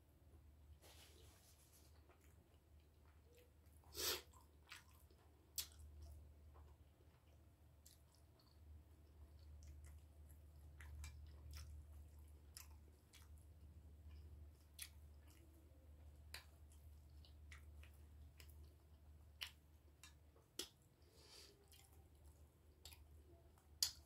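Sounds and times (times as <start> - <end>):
low steady hum: 0.0 - 24.0
chewing food: 1.6 - 24.0.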